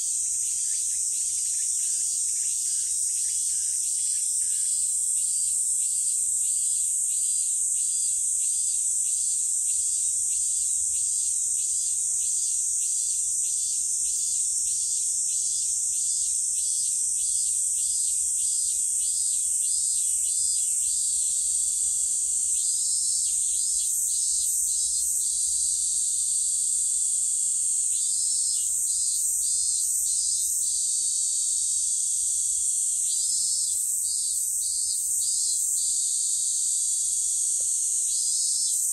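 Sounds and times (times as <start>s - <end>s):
cicadas shrill chorus: 0.0s - 38.9s
pulsed cicada call: 0.0s - 38.9s.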